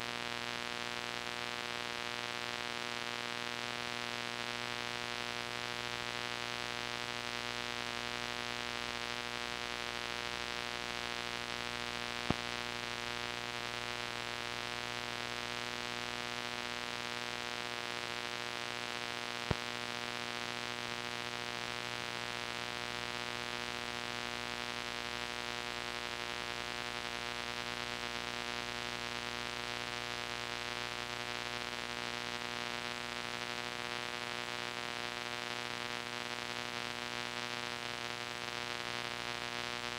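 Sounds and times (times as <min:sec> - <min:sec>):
mains hum and buzz: 0:00.0 - 0:39.9.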